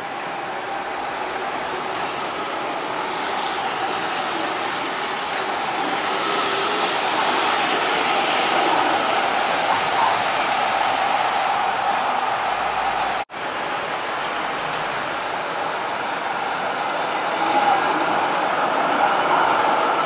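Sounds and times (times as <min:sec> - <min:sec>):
tram rolling on rails: 0:00.0 - 0:20.0.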